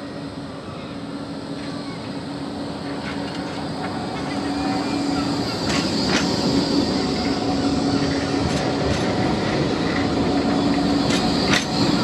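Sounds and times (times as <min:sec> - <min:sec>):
constant hum: 0:00.0 - 0:12.0
tram rumbling on rails: 0:00.0 - 0:12.0.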